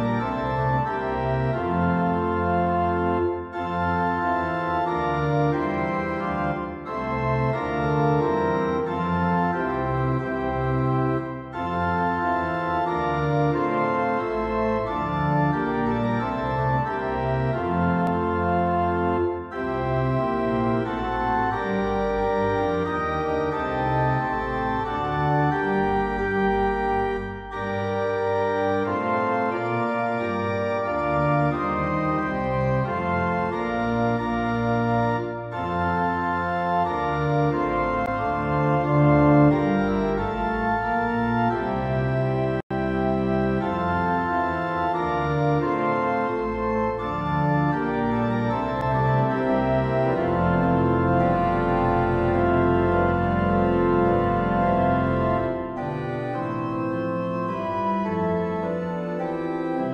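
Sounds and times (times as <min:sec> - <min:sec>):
slow organ chords: 0:00.0 - 0:59.9.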